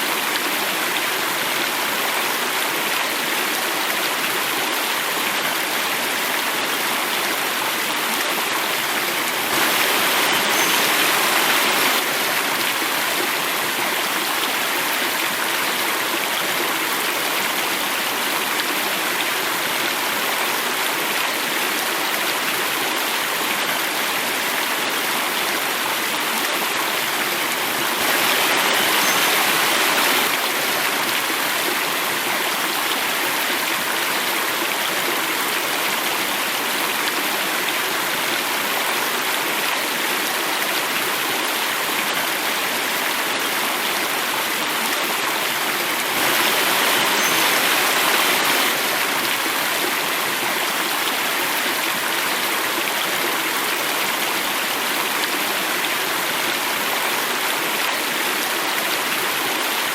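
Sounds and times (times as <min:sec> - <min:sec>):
water rushing over small waterfall: 0:00.0 - 0:59.9.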